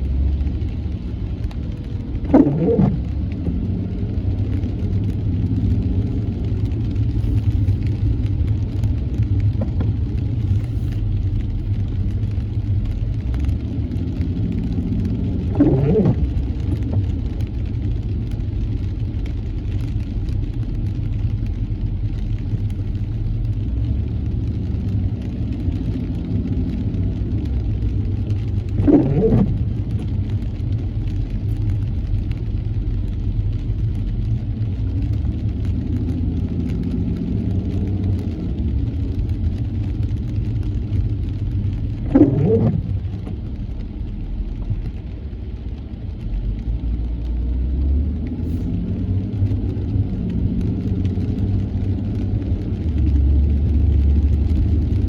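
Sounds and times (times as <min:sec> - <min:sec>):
road and engine rumble: 0:00.0 - 0:55.0
windshield wipers sweeping: 0:00.0 - 0:55.0.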